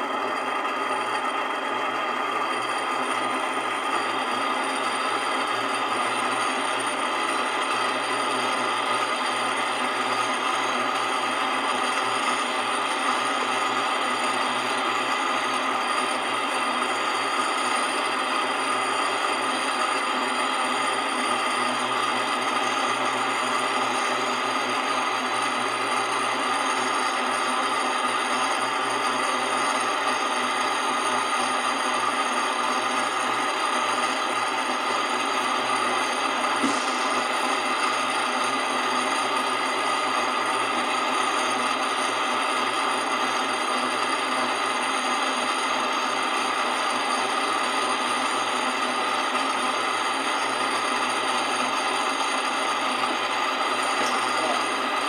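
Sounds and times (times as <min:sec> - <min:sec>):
spin dryer whirring: 0:00.0 - 0:55.0.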